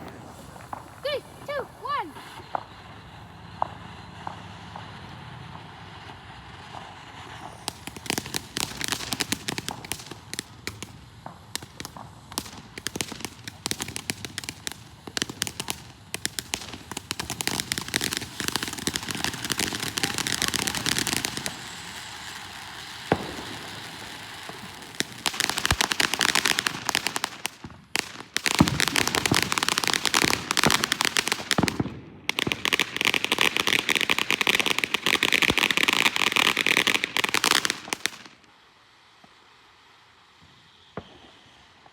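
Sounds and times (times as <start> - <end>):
fireworks crackling and popping: 0.0 - 41.9
sharp firework crack: 0.0 - 41.9.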